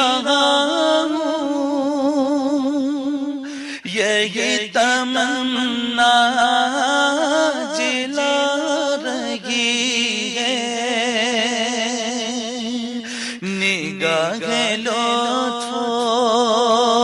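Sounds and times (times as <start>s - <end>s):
man singing devotional phrase: 0.0s - 17.0s.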